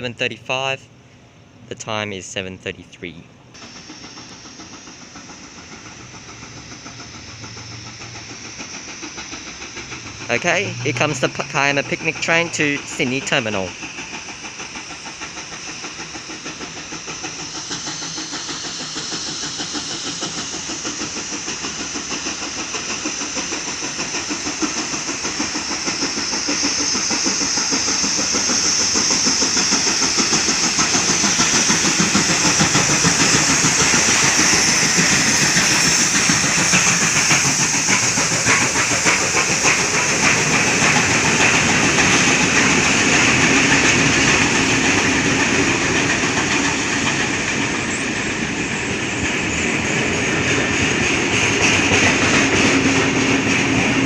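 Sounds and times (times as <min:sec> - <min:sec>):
steam locomotive chuffing: 0:00.0 - 0:54.0
steam hissing: 0:03.1 - 0:54.0.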